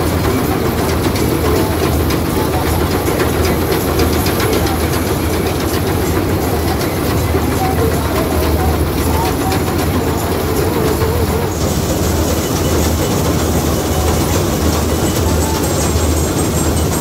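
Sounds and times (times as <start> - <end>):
clatter of cutting machinery: 0.0 - 17.0
combine harvester engine under load: 0.0 - 17.0.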